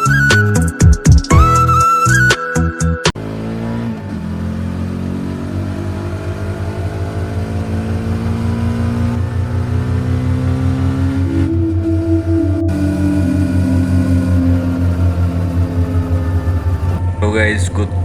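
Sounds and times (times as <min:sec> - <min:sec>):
vehicle engine accelerating: 0:03.2 - 0:18.0.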